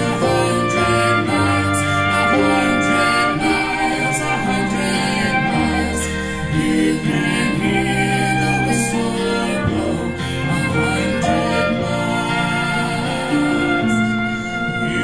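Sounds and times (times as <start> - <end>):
man singing lead: 0.0 - 15.0
strummed acoustic guitar: 0.0 - 15.0.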